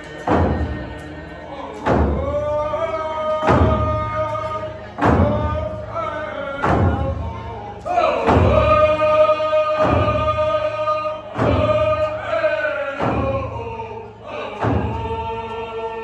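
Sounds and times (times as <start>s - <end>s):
group of voices singing: 0.0s - 16.0s
drum struck: 0.2s - 1.0s, 1.8s - 13.8s, 14.6s - 15.3s.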